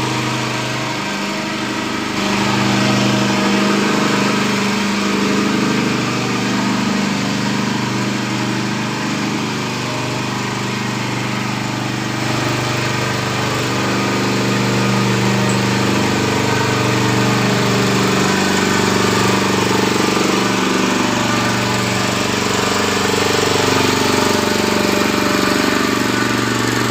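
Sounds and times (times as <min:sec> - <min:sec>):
small rotavator engine running: 0:00.0 - 0:26.9.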